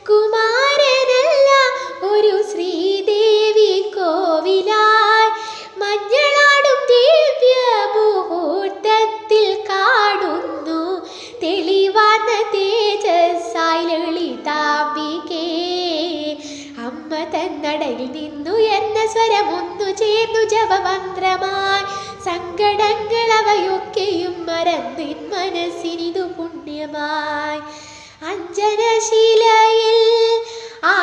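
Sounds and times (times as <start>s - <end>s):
woman singing devotional song: 0.0s - 31.0s.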